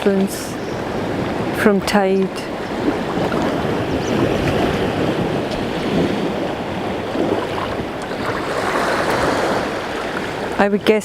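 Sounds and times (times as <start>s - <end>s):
waves washing against rocks: 0.0s - 11.0s
wind buffeting microphone: 0.0s - 11.0s.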